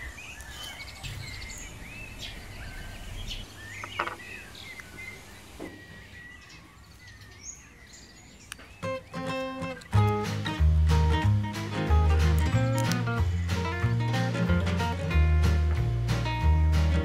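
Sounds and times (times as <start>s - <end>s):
small birds chirping: 0.0s - 15.0s
outdoor background hiss: 0.0s - 16.6s.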